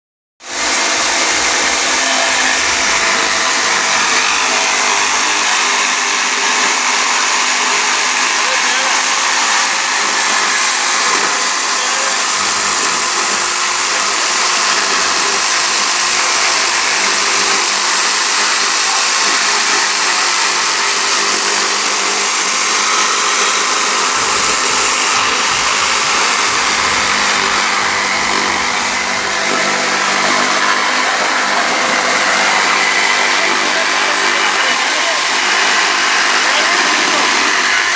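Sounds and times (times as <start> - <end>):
small electric motor whirring: 0.5 - 37.9.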